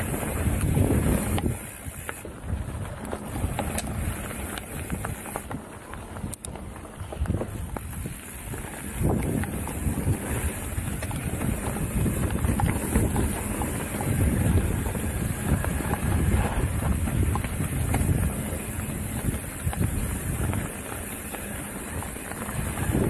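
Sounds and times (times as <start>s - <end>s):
bike knocking and rattling: 0.0s - 23.0s
tyres rumbling on dirt: 0.0s - 23.0s
wind buffeting microphone: 0.0s - 23.0s.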